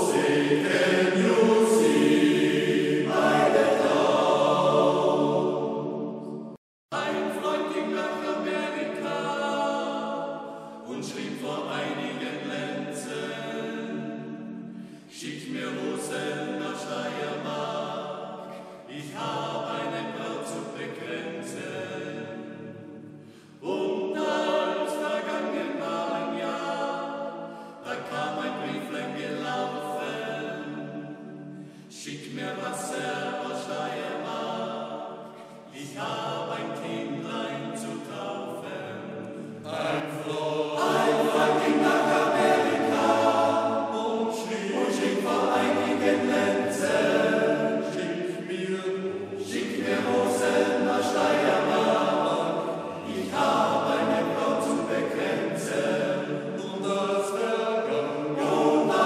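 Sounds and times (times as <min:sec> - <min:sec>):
men singing a cappella: 0:00.0 - 0:05.8, 0:06.9 - 0:14.2, 0:15.1 - 0:22.3, 0:23.6 - 0:31.1, 0:31.9 - 0:59.0.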